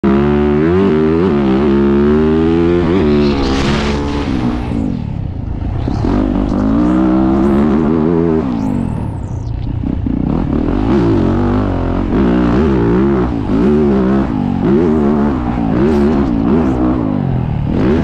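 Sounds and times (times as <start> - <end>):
motocross engine revving: 0.0 - 18.0.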